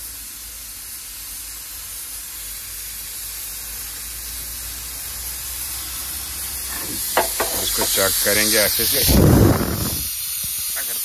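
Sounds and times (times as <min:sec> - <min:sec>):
pressure cooker steam hissing: 0:00.0 - 0:11.0.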